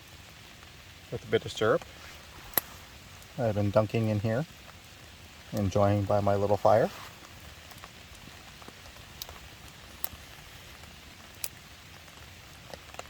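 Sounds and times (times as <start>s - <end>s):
light rain hissing: 0.0s - 13.0s.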